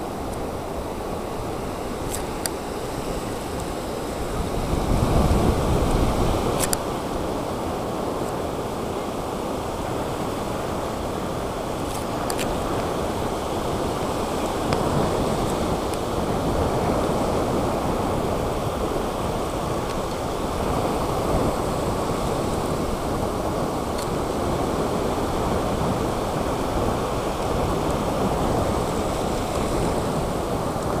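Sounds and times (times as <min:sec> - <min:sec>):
surf washing up sandy beach: 0:00.0 - 0:31.0.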